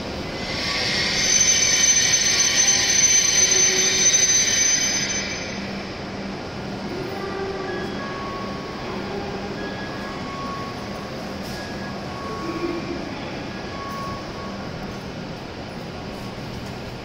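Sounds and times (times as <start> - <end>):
train brakes squealing: 0.2 - 6.2, 7.0 - 14.8.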